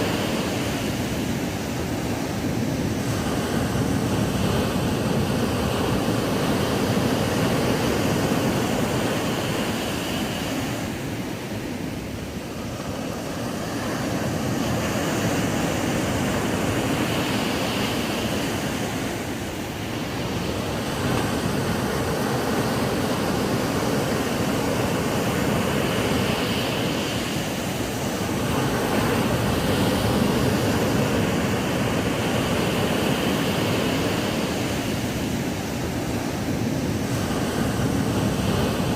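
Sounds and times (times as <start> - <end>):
ocean surf breaking on beach: 0.0 - 38.9.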